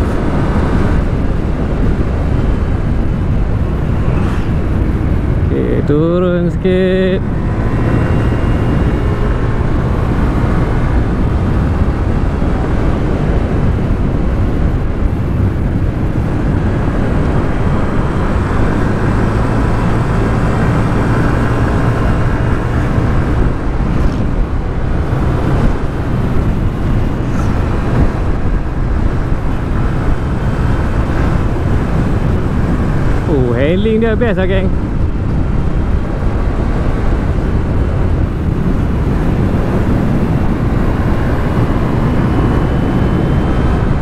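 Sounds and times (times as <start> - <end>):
road and wind noise: 0.0 - 44.0.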